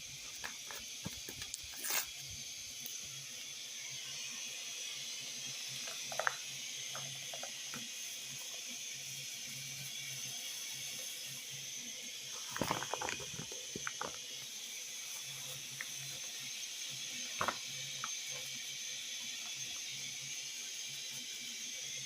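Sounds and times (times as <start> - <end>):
pot hissing on fire: 0.0 - 22.0.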